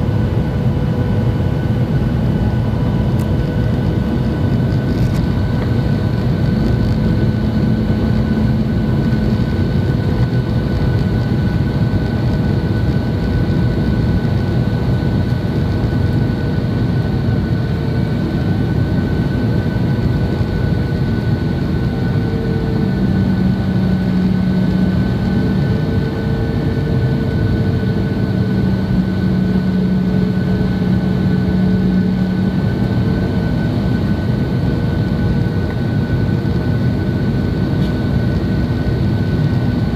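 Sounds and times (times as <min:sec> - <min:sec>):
jet engine drone and airflow rush: 0:00.0 - 0:39.9.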